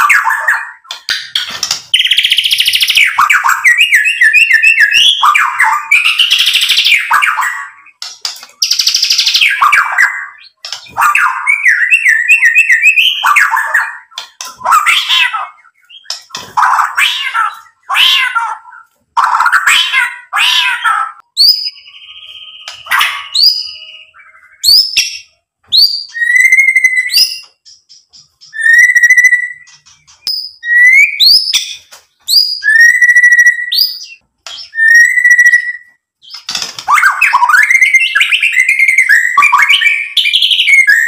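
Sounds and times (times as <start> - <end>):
songbird singing: 0.0 - 18.0, 21.2 - 41.0.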